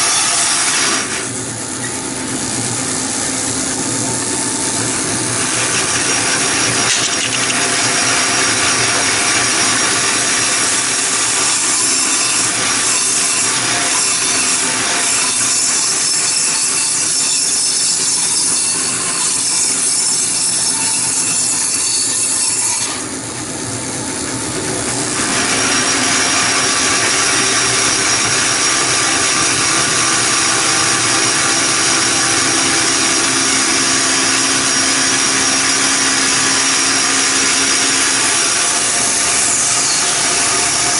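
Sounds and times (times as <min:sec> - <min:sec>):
band saw cutting wood: 0:00.0 - 0:40.9.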